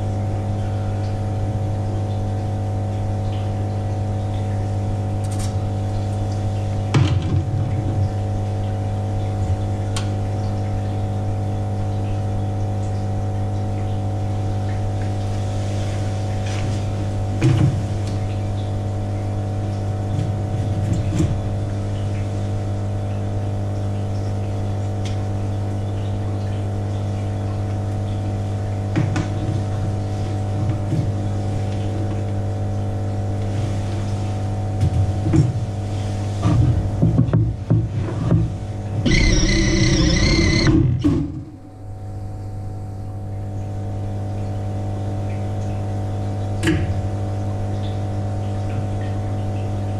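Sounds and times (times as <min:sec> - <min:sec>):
low machine hum: 0:00.0 - 0:34.7, 0:38.8 - 0:49.9.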